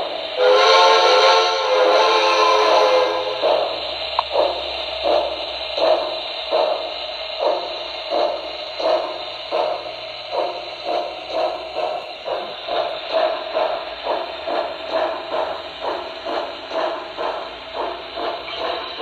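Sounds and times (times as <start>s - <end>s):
continuous steam hiss: 0.0s - 19.0s
model steam locomotive chuffing: 0.0s - 19.0s.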